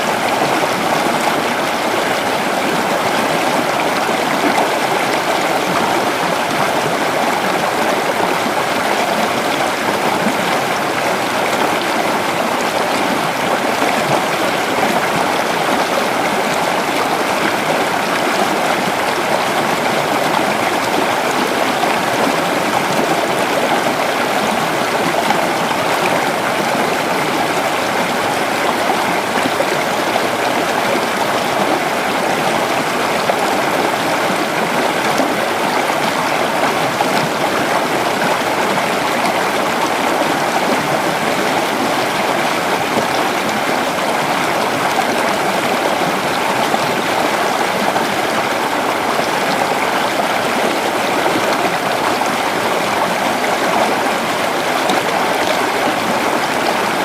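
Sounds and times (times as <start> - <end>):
creek water flowing over rocks: 0.0 - 57.0.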